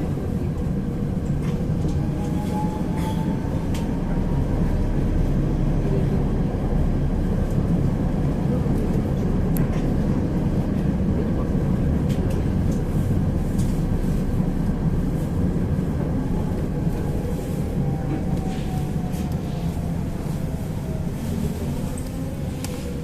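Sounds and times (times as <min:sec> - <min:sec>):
tram rumbling on rails: 0:00.0 - 0:23.0.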